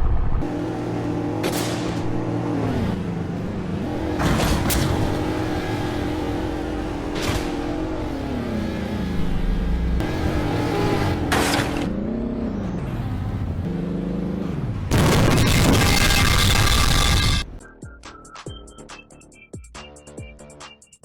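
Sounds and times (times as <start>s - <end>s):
vehicle motor revving: 0.4s - 17.4s.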